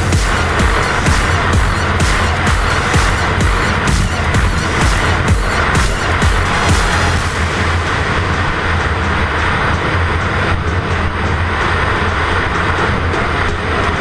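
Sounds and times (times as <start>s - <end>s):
snowmobile engine drone: 0.0s - 14.0s.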